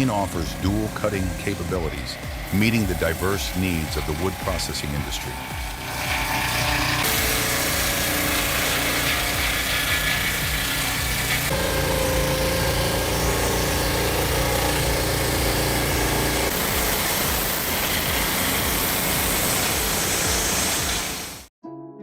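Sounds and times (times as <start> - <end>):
small sawmill engine running: 0.0 - 21.5.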